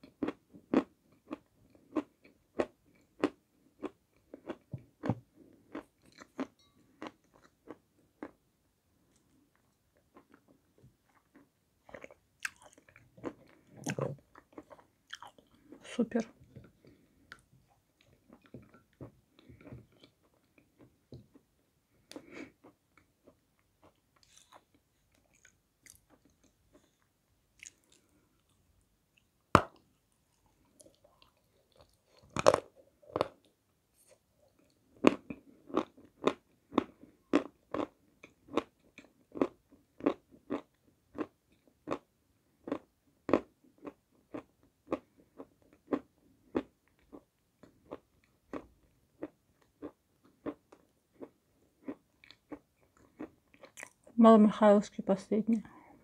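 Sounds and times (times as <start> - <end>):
crunchy chewing: 0.0 - 8.4, 9.1 - 15.8, 22.1 - 28.6, 30.2 - 42.0, 42.6 - 54.1.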